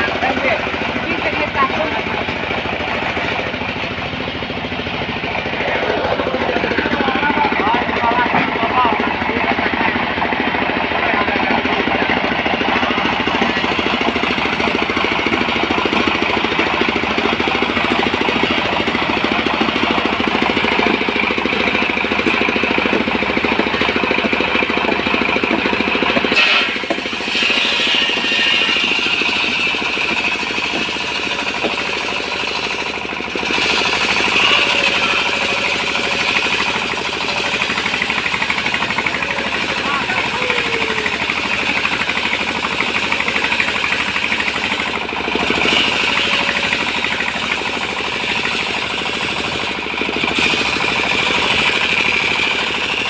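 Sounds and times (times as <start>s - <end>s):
portable sawmill running: 0.0s - 53.0s.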